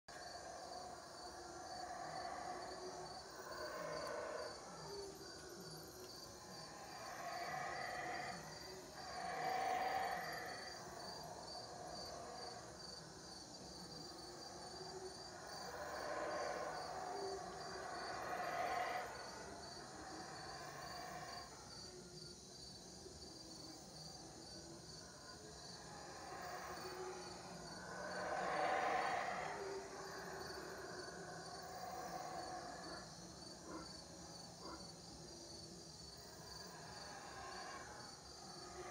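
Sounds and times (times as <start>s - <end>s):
howler monkeys roaring: 0.1s - 22.0s, 24.7s - 35.0s, 35.8s - 38.9s
crickets trilling: 0.1s - 38.9s.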